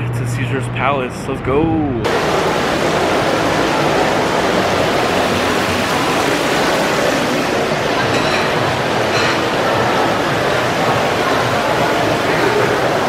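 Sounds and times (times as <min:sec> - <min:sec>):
fountain water splashing: 0:02.1 - 0:13.0.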